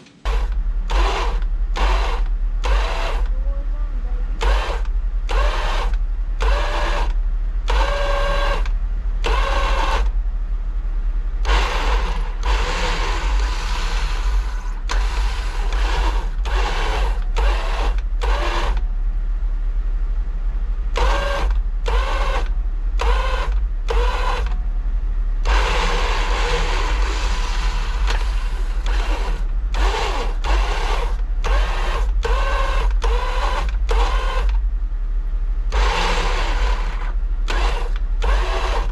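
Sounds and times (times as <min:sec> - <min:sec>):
electric winch motor whining: 0:00.0 - 0:10.2, 0:11.4 - 0:18.9, 0:20.9 - 0:24.7, 0:25.4 - 0:34.7, 0:35.7 - 0:38.9
low steady rumble: 0:00.0 - 0:38.9.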